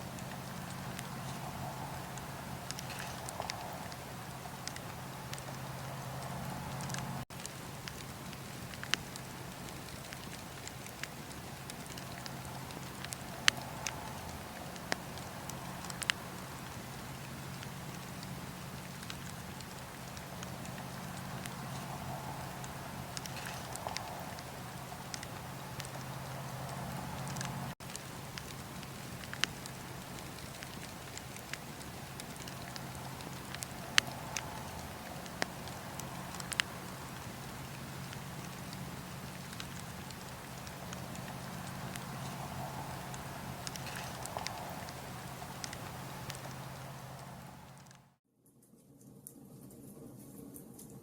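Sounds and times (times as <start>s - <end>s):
campfire crackling and popping: 0.0s - 48.2s
steady low hum: 0.0s - 48.2s.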